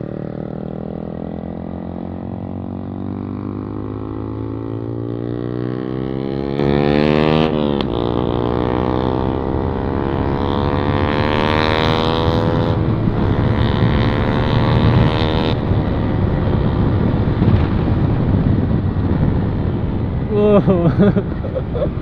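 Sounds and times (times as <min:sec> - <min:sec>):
motorcycle engine accelerating hard: 0:00.0 - 0:22.0.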